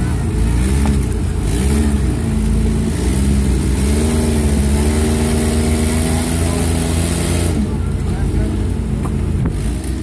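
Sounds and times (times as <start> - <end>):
car engine revving under load: 0.0 - 10.0.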